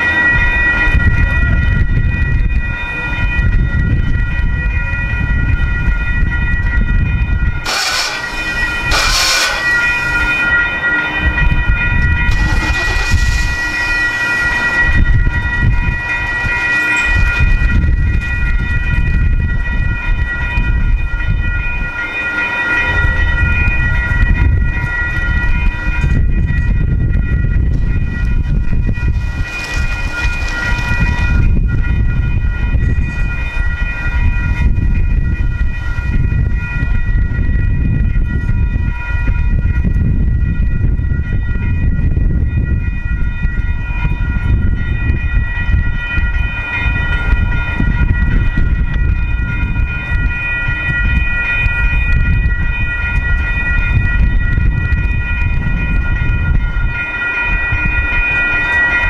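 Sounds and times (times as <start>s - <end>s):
crossing warning bell ringing: 0.0s - 59.0s
freight train rumble: 0.0s - 59.0s.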